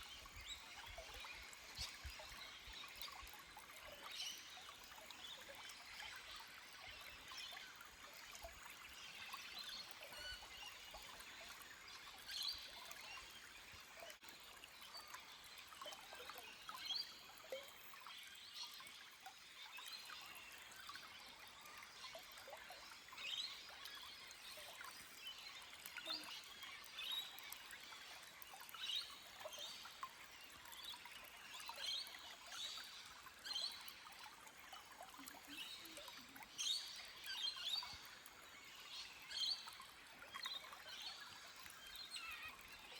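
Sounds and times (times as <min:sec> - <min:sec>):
stream trickling over rocks: 0:00.0 - 0:42.9.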